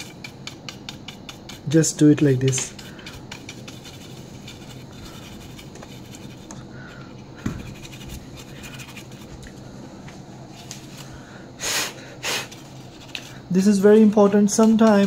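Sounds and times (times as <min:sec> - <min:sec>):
brush scratching plastic: 0:00.0 - 0:09.5, 0:12.2 - 0:15.0.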